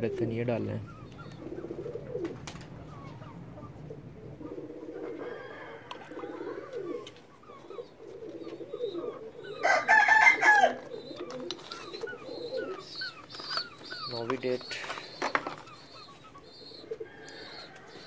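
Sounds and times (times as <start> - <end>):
pigeons cooing: 0.0 - 18.0
small birds chirping: 0.0 - 18.0
loud bird call: 0.7 - 18.0.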